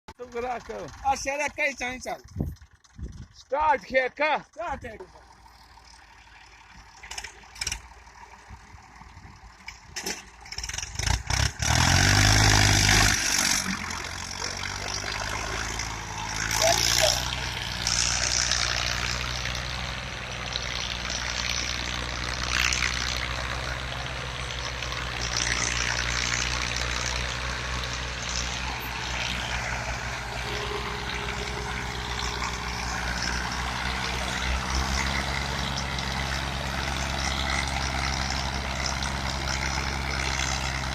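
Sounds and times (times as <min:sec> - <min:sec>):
tractor diesel engine starting: 0:00.1 - 0:40.9.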